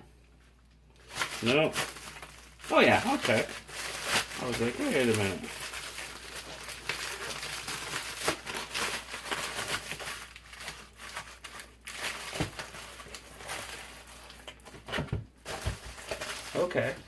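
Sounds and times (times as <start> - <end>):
packaging crinkling and rustling: 1.0 - 17.0.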